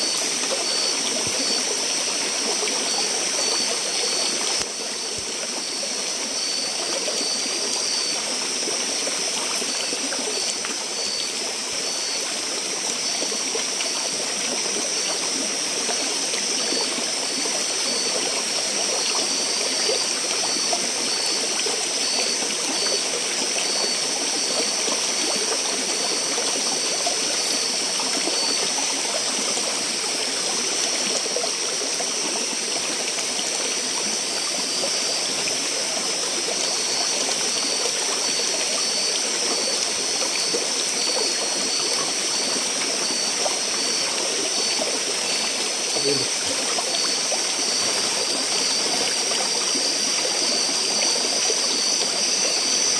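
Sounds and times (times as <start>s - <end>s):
high-pitched insect buzz: 0.0s - 52.9s
stream water flowing: 0.0s - 52.9s.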